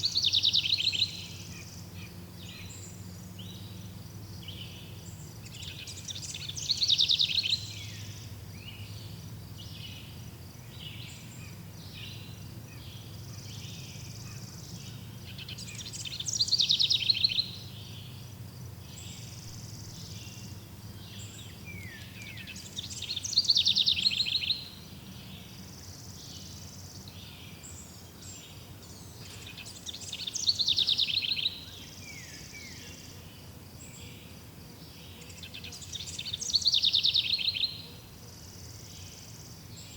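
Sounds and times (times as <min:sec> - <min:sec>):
faint birds chirping: 0:00.0 - 0:39.9.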